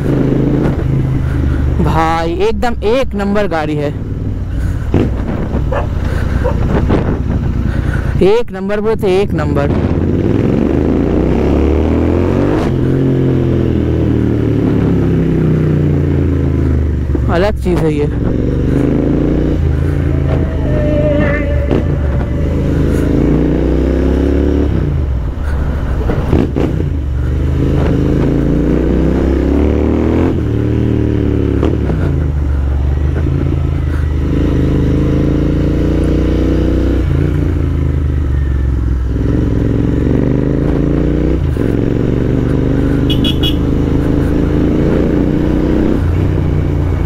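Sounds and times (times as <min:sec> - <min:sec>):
motorcycle engine accelerating: 0:00.0 - 0:01.9, 0:09.7 - 0:47.0.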